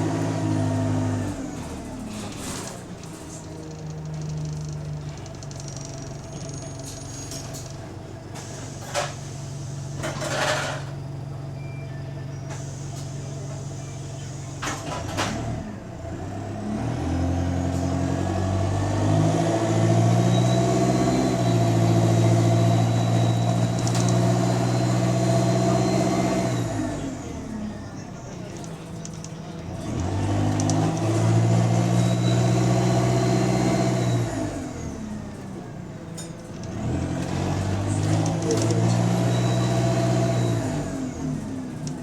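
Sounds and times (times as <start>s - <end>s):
bus diesel engine accelerating: 0.0s - 42.0s.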